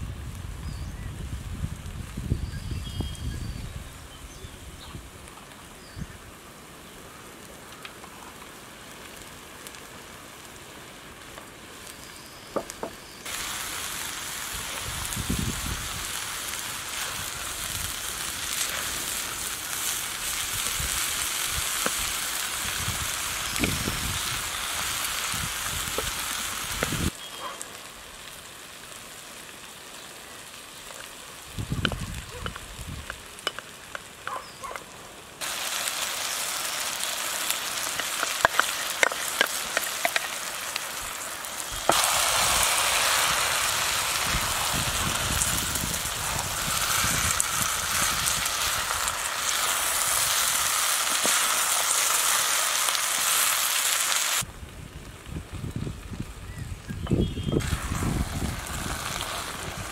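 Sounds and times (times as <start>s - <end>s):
vegetables sizzling in a wok: 0.0s - 59.9s.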